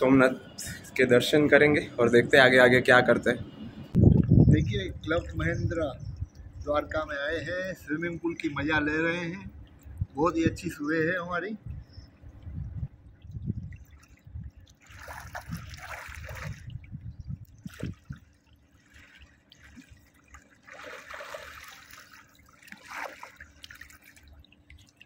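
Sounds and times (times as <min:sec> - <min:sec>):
pool water splashing and trickling: 0:00.0 - 0:25.0.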